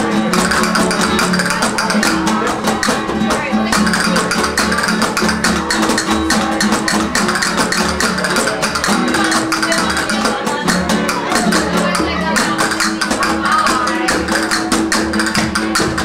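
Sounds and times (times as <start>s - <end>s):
flamenco guitars strumming: 0.0s - 16.0s
sharp percussive clicks: 0.1s - 16.0s.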